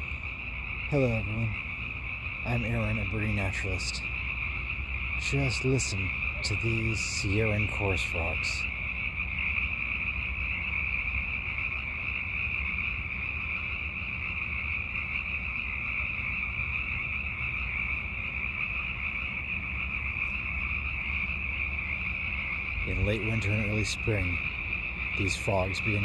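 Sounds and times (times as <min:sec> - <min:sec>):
chorus of frogs calling: 0:00.0 - 0:26.0.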